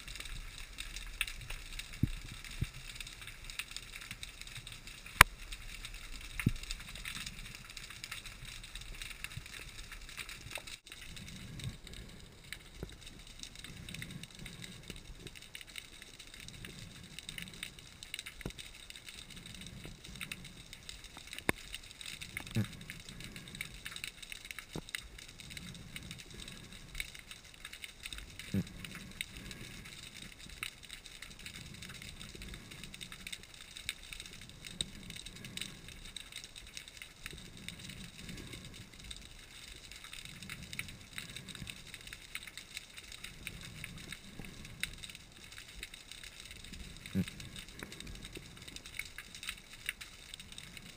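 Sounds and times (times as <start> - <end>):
low water rumble: 0.0 - 50.9
underwater crackling clicks: 0.0 - 50.9.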